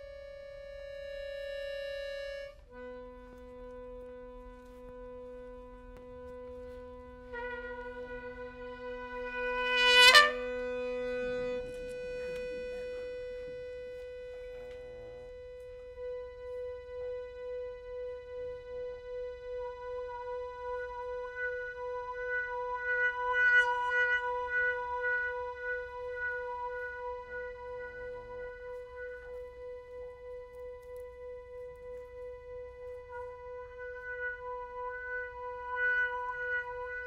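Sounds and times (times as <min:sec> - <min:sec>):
trumpet: 0:00.0 - 0:37.0.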